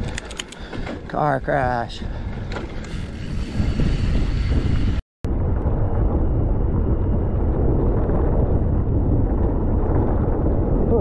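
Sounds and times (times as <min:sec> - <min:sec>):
bike tyres rumbling on dirt trail: 0:00.0 - 0:11.0
wind buffeting microphone: 0:00.0 - 0:11.0.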